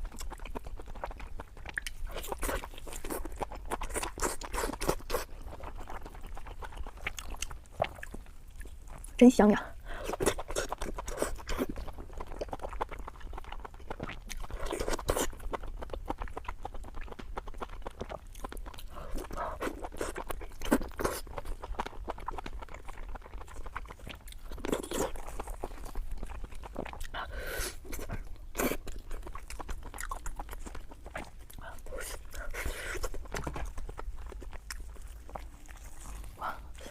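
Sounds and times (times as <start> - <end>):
wet chewing and crunching: 0.0 - 36.9.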